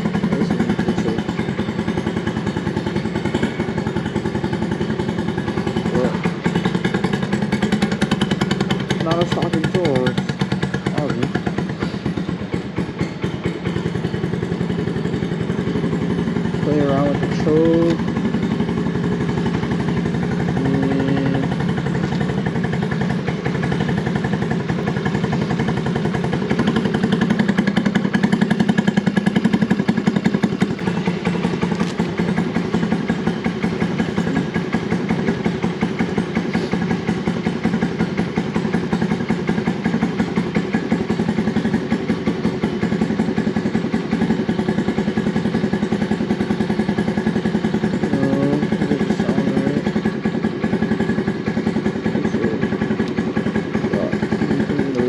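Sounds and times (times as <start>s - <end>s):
small motorbike engine running: 0.0s - 55.0s.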